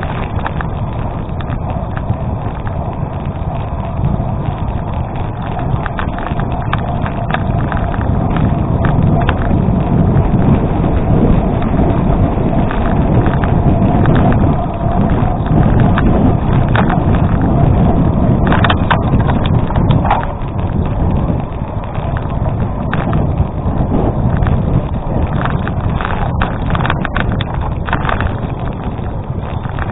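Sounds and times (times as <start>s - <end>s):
stones clicking: 0.0s - 10.6s, 11.8s - 17.6s, 18.3s - 29.9s
bicycle tyres rolling on gravel: 0.0s - 29.9s
bike rattle: 0.0s - 29.9s
wind on microphone: 0.0s - 29.9s.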